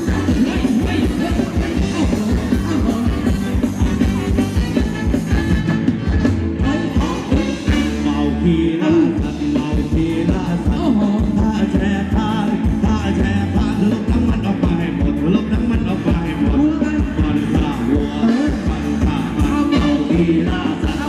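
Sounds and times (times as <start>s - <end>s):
person singing: 0.0s - 5.6s, 6.5s - 21.0s
steady drum beat: 0.0s - 8.2s, 9.0s - 21.0s
live band dance music: 0.0s - 21.0s.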